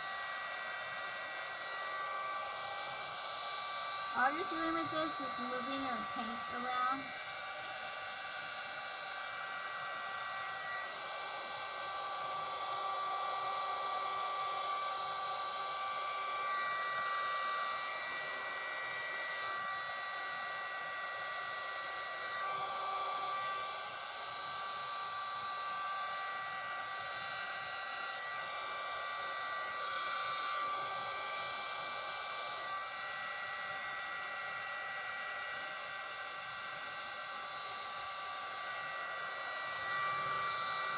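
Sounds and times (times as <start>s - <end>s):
heat gun blowing air: 0.0s - 40.9s
high fan motor whine: 0.0s - 40.9s.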